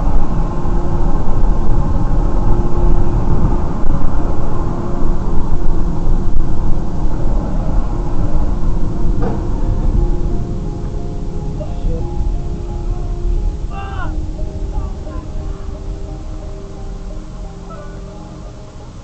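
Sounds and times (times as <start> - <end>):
vehicle road and engine rumble: 0.0 - 19.0.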